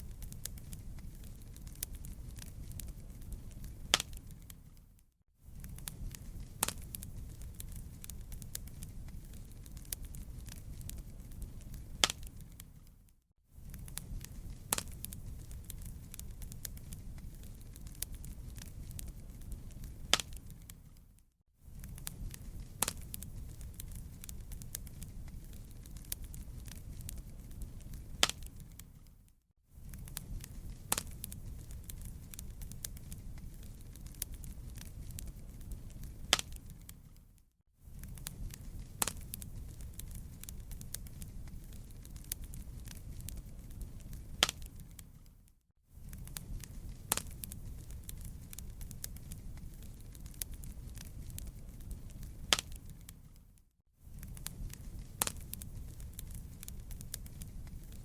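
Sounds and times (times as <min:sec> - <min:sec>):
wood fire rumble: 0:00.0 - 0:13.0, 0:13.6 - 0:58.0
fire crackling and popping: 0:00.0 - 0:58.0.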